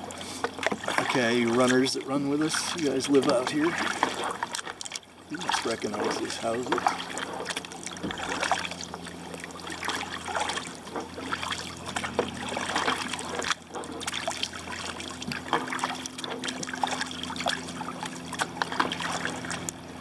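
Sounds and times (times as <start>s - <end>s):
water dripping off paddle: 0.0s - 19.8s
paddle splashes: 0.0s - 20.0s.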